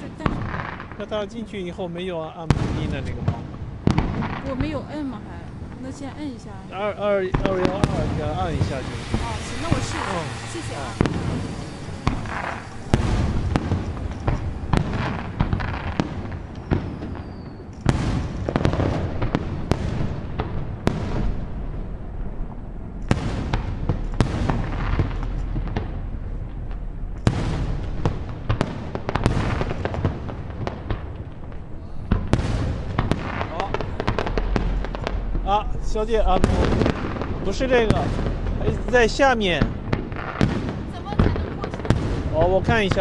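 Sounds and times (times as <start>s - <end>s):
continuous rumbling: 0.0s - 43.0s
fireworks bursting: 0.0s - 43.0s.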